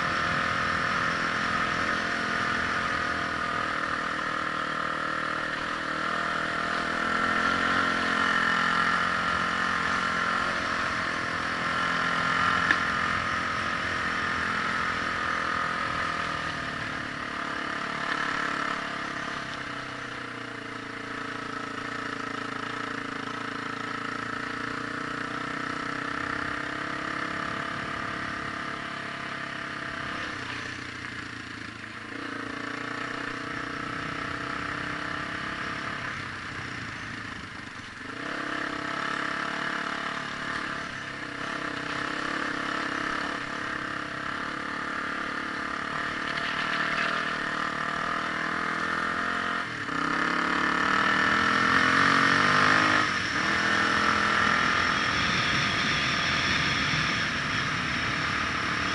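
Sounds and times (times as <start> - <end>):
vehicle engine running: 0.0 - 58.9.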